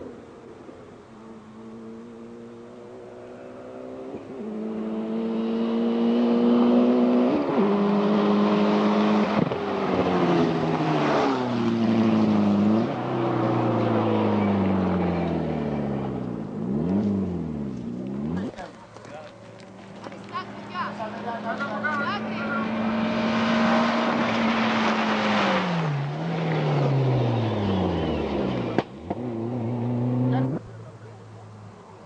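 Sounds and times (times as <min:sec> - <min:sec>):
rally car engine passing: 0:00.0 - 0:32.0.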